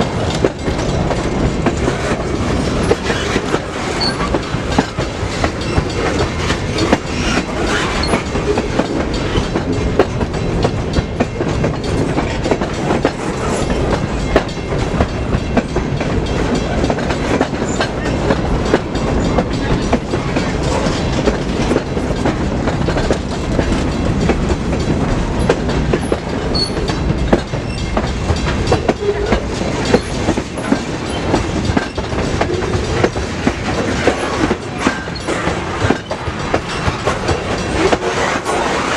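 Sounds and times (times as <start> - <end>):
train wheels clacking on rail joints: 0.0 - 38.9.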